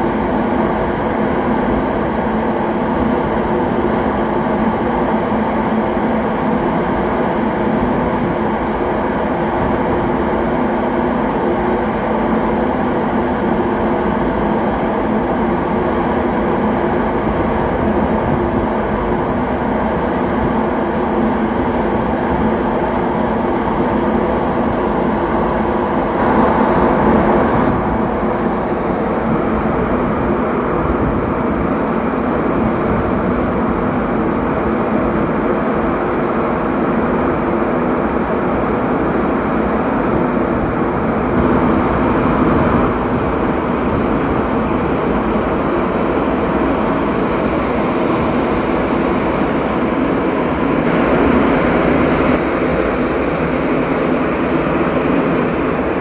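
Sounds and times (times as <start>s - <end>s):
ship engine drone: 0.0s - 56.0s.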